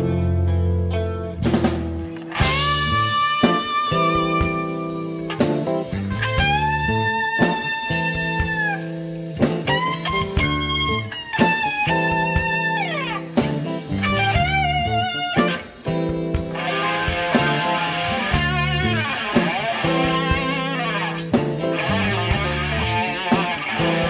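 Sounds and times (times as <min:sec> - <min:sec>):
bass line: 0:00.0 - 0:24.0
electric guitar lead notes: 0:00.0 - 0:24.0
drum strokes: 0:01.5 - 0:24.0.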